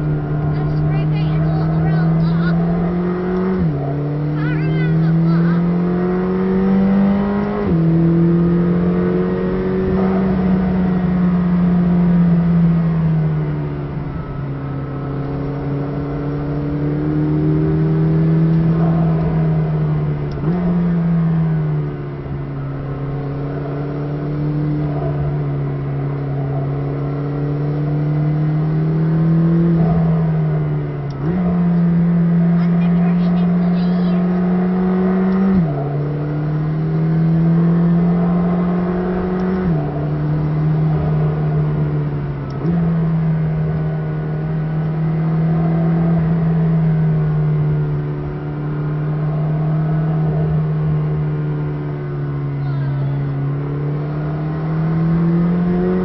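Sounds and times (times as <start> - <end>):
car engine at speed from cabin: 0.0 - 56.0
gear change: 0.0 - 56.0.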